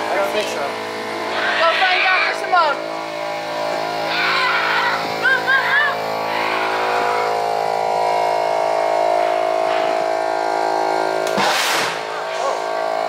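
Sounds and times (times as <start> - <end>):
electric buzzing drone: 0.0 - 13.0.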